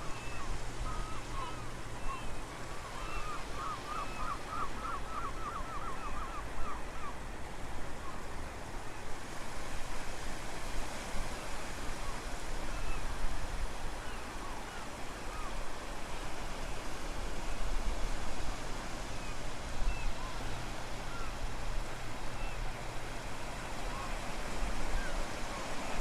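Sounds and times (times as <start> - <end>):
sea surf: 0.0 - 26.0.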